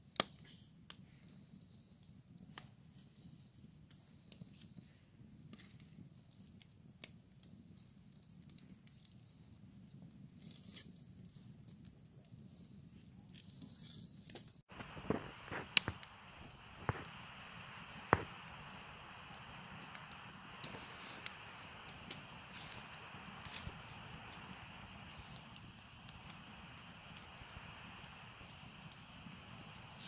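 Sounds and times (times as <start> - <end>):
campfire crackling: 0.0 - 30.0
burning wood popping: 0.1 - 30.0.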